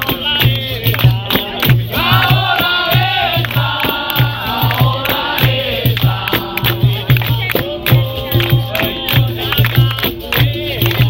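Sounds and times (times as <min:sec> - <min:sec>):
group singing in chorus: 0:00.0 - 0:11.0
hand drum and percussion: 0:00.0 - 0:11.0.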